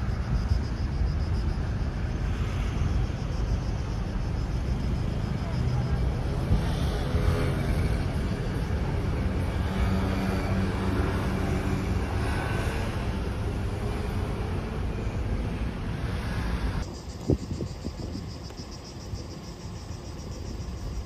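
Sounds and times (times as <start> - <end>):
cars driving past: 0.0 - 16.9.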